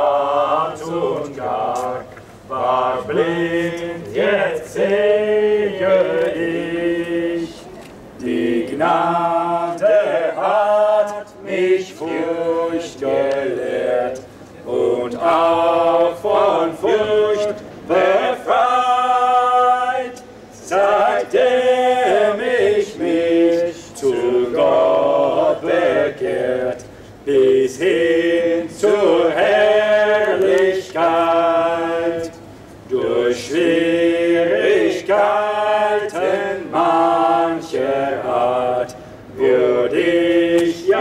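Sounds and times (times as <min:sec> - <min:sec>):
group singing a hymn: 0:00.0 - 0:41.0.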